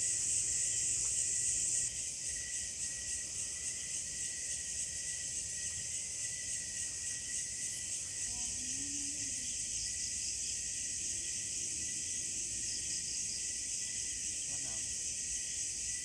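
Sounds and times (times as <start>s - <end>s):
crickets chirping chorus: 0.0s - 16.0s.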